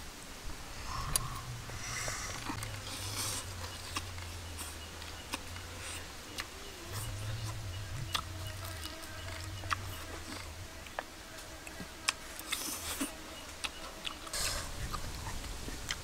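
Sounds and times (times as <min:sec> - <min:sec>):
low steady hum: 0:00.0 - 0:16.0
people chewing and lip smacking: 0:02.0 - 0:16.0.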